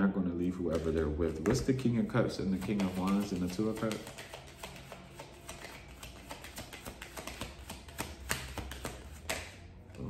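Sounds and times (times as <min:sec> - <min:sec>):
cards shuffling clicks: 0:00.7 - 0:10.0.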